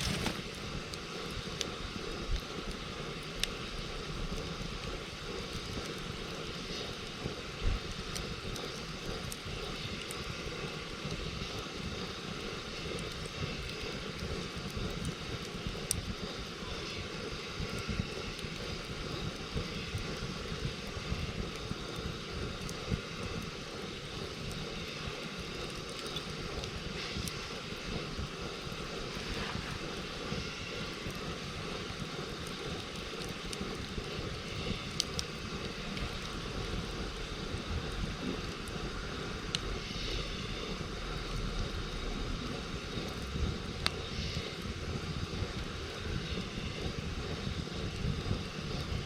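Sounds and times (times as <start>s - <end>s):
campfire crackling and popping: 0.0s - 49.0s
low fire rumble: 0.0s - 49.0s.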